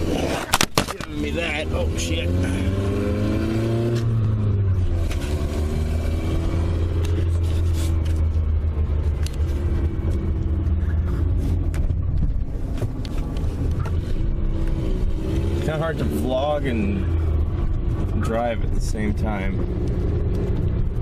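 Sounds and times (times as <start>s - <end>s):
car engine drone in cabin: 0.0s - 21.0s.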